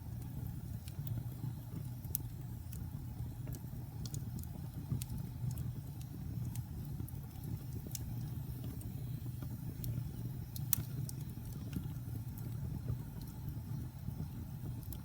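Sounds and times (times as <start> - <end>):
log fire flames rumbling: 0.0 - 15.0
wood crackling and popping: 0.0 - 15.0.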